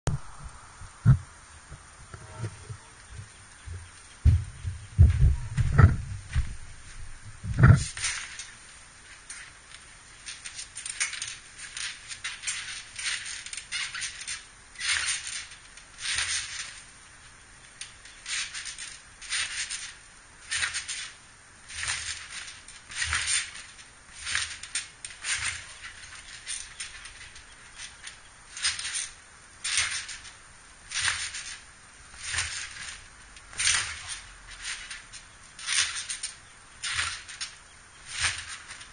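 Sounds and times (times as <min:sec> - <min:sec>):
trampoline springs squeaking: 0:01.0 - 0:38.9.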